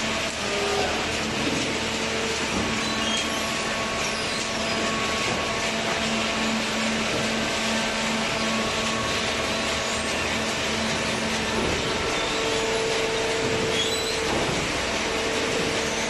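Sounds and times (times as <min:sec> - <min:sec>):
baler machine whirring: 0:00.0 - 0:16.0.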